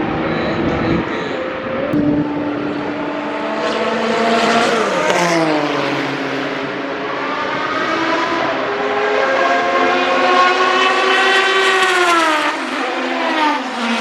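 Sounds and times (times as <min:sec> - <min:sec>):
race car engine passing: 0:01.8 - 0:14.0.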